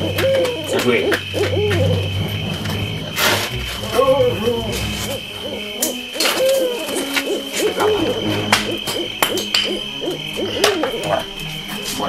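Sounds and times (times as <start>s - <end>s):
owl hooting: 0.0s - 12.0s
steady high whine: 0.0s - 12.0s.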